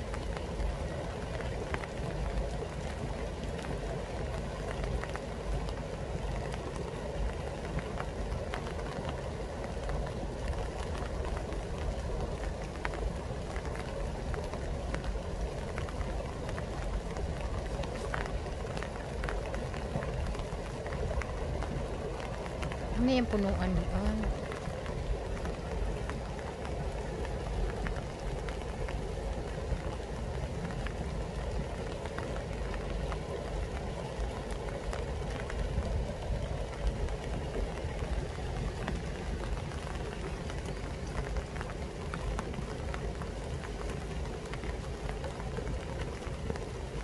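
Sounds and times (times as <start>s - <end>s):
rain falling on trees: 0.0s - 47.0s.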